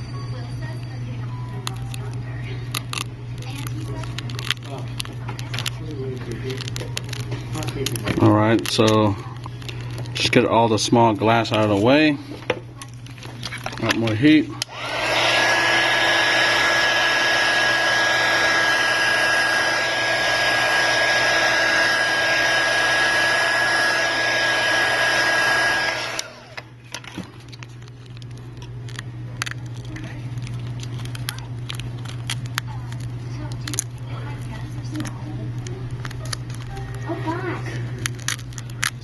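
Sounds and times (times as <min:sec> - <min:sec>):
hot-air blower whining: 0:00.0 - 0:39.0.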